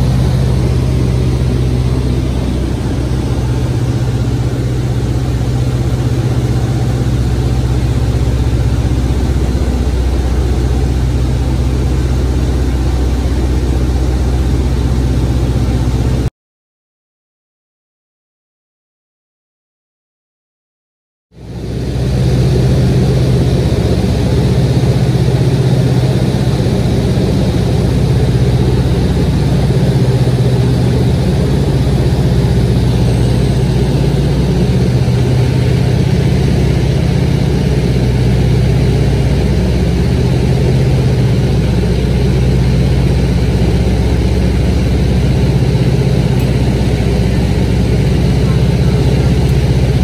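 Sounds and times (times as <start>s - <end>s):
airplane engine and propeller droning: 0.0s - 16.3s, 21.4s - 50.0s.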